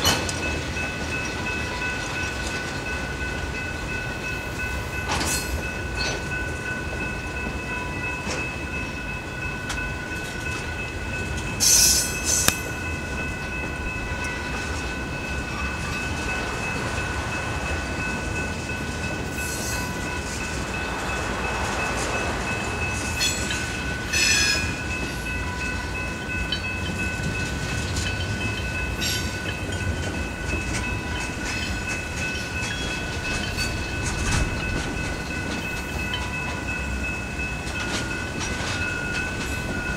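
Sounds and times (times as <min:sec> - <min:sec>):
freight train wheels rumbling and clicking: 0:00.0 - 0:39.9.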